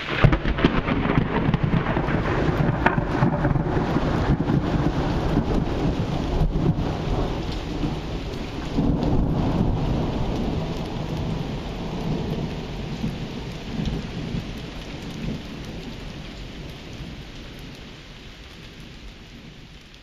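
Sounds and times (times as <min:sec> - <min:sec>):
thunder rumbling: 0:00.0 - 0:18.0
heavy rain: 0:00.0 - 0:20.0.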